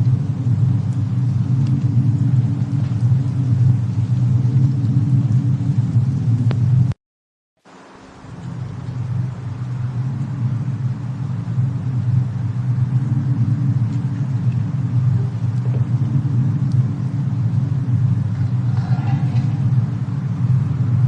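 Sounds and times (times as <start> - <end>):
faint fire crackles: 0.0 - 7.0, 7.6 - 21.0
steady low rumble: 0.0 - 7.0, 7.7 - 21.0.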